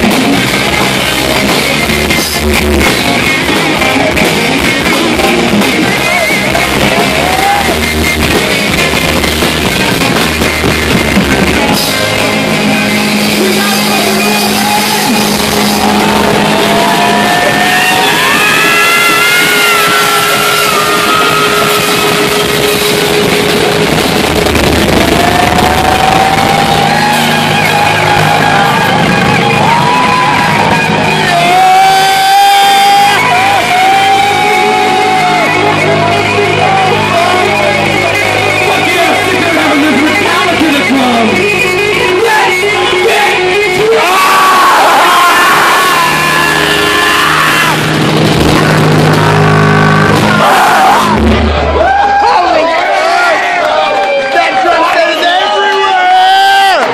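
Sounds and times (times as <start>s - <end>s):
drums: 0.0s - 54.6s
distorted electric guitars: 0.0s - 56.9s.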